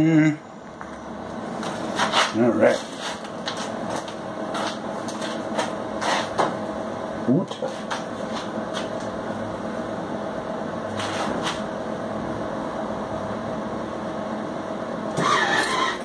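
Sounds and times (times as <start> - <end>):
cooling fan running: 0.0 - 16.0.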